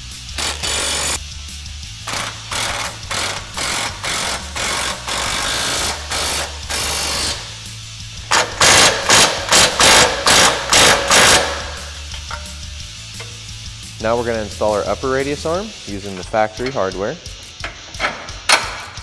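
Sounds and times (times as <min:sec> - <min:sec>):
impact wrench hammering: 0:00.3 - 0:01.2, 0:02.0 - 0:07.6, 0:08.3 - 0:13.6, 0:14.2 - 0:19.0.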